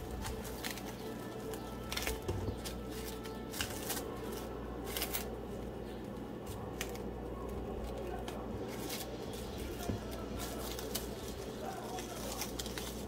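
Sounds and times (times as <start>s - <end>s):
cling film rustling: 0.0s - 13.0s
steady low hum: 0.0s - 13.0s.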